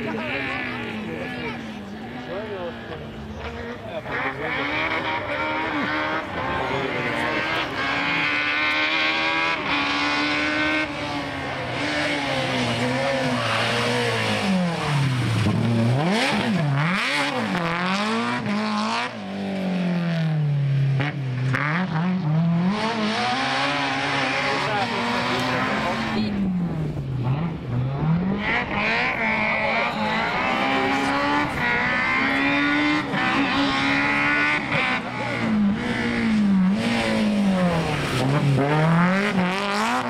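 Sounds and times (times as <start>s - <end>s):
rally car engine at full throttle: 0.0s - 40.0s.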